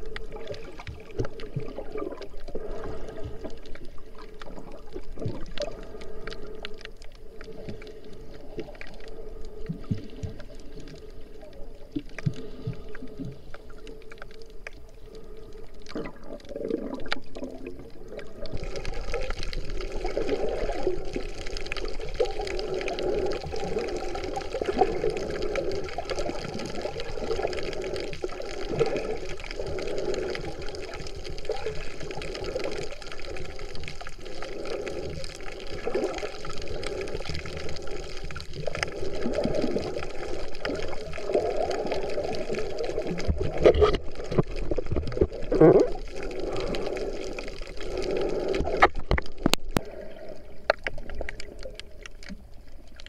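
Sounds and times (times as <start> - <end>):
muffled underwater water churning: 0.0 - 53.0.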